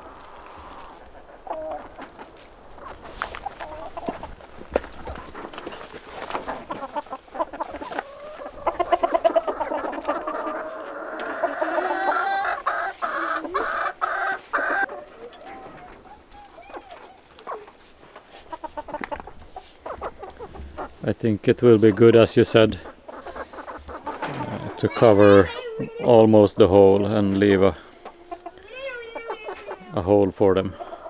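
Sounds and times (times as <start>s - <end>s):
chickens clucking and squawking: 0.0s - 31.0s.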